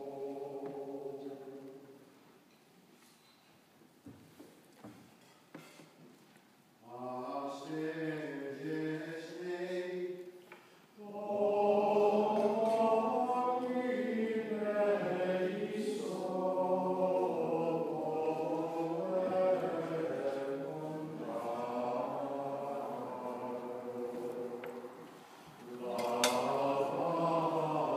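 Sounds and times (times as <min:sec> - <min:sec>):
choir singing plainchant: 0:00.0 - 0:02.0, 0:06.8 - 0:10.4, 0:11.0 - 0:27.9.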